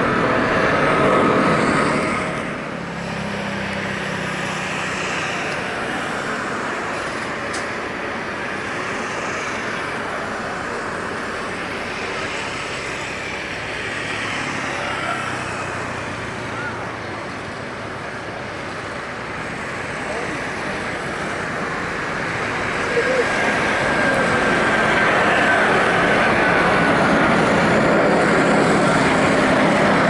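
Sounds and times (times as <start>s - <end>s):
jet engines at full thrust: 0.0s - 30.0s.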